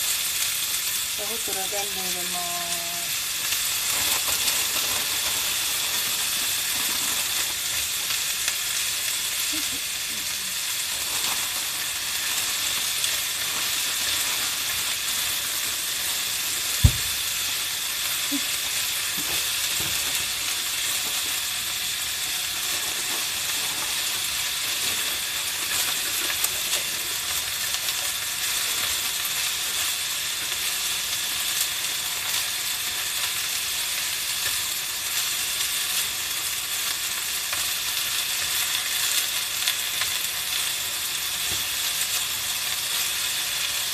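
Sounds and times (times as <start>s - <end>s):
food sizzling in a frying pan: 0.0s - 43.9s.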